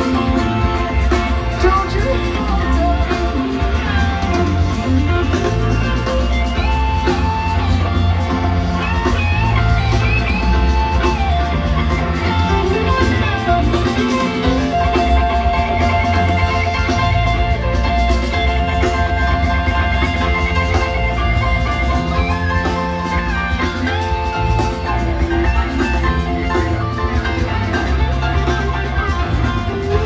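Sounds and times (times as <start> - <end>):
electric guitar lead with bends: 0.0 - 30.0
live rock band: 0.0 - 30.0.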